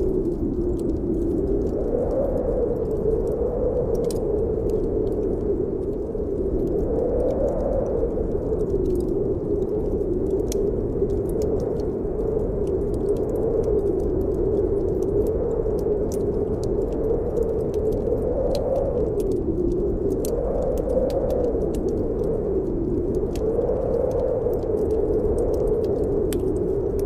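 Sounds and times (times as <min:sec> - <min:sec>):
snowstorm wind howling: 0:00.0 - 0:27.0
wood fire crackling: 0:00.0 - 0:27.0.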